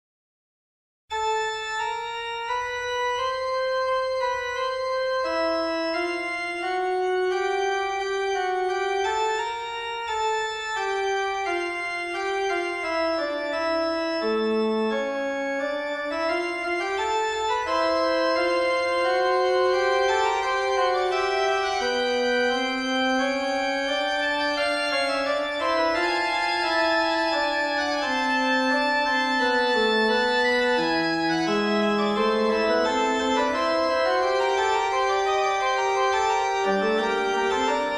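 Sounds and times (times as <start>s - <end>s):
slow instrumental music: 1.2s - 37.9s.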